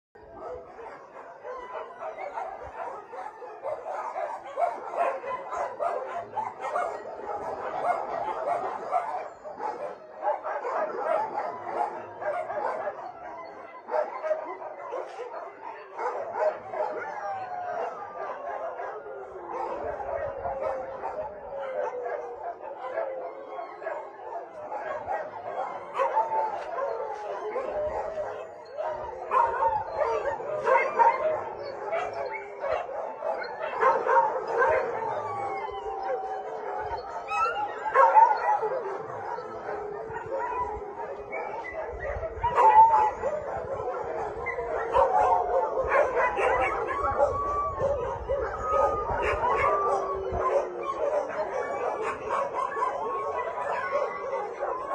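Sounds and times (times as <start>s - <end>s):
dogs barking and yipping: 0.2s - 54.9s
dogs howling: 0.2s - 54.9s.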